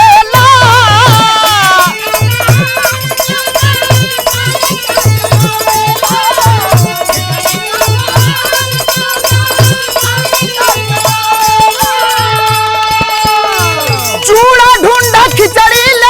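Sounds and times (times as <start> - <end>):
hand drum beat: 0.0 - 16.0
jingling percussion: 0.0 - 16.0.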